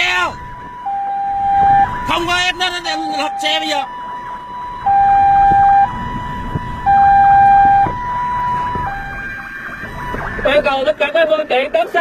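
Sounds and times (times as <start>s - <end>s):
road noise: 0.0s - 12.0s
two-tone police siren: 0.0s - 12.0s.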